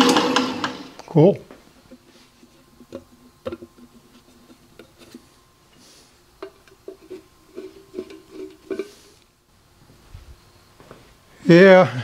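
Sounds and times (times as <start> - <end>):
faint hum: 0.8 - 12.0.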